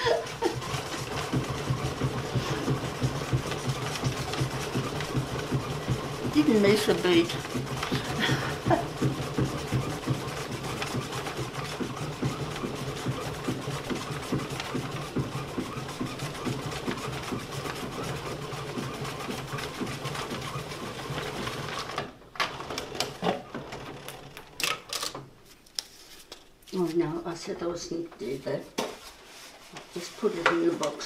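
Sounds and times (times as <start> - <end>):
player piano mechanism whirring: 0.0 - 25.3.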